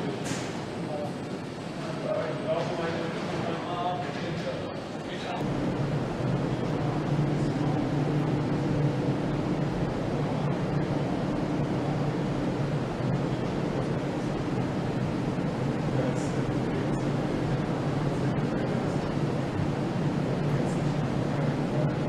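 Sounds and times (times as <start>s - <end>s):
factory machinery hum: 0.0s - 22.0s.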